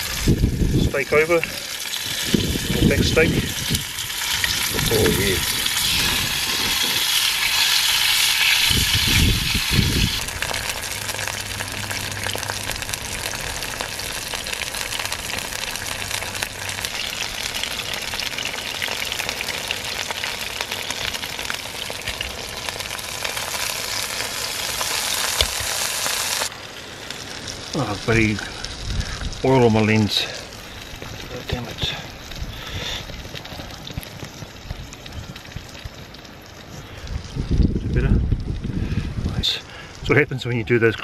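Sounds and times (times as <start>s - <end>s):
steak sizzling in a frying pan: 0.0s - 37.8s.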